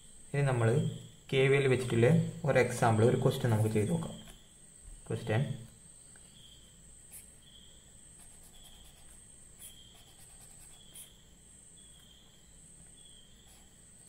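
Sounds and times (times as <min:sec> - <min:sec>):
insect trill: 0:00.0 - 0:14.0
low insect chirp: 0:00.0 - 0:14.0.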